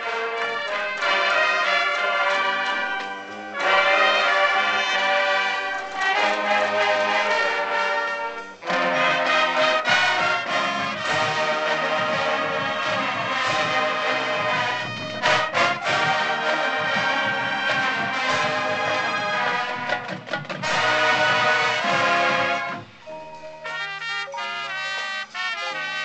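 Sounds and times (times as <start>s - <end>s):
marching band brass playing chords: 0.0s - 26.0s.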